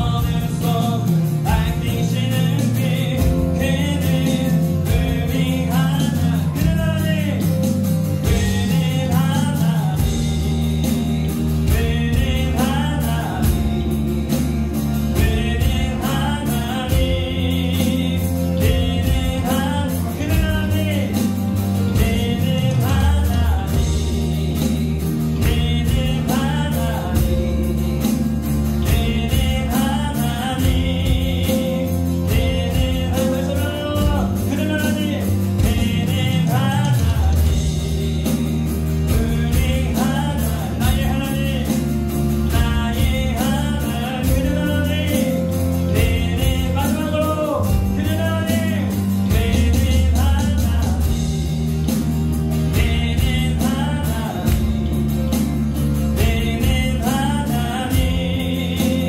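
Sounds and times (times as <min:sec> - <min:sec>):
person singing: 0:00.0 - 0:59.0
worship band playing: 0:00.0 - 0:59.0.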